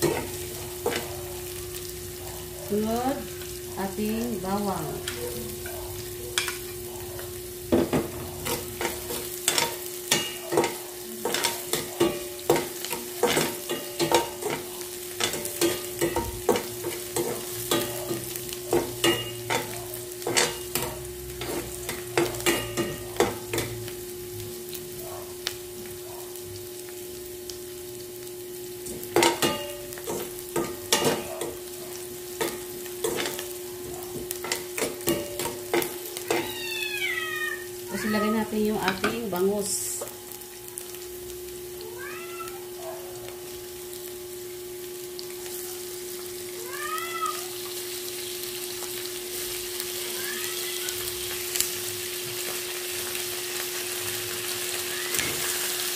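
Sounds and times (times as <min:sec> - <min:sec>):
onion sizzling in hot oil: 0:00.0 - 0:55.9.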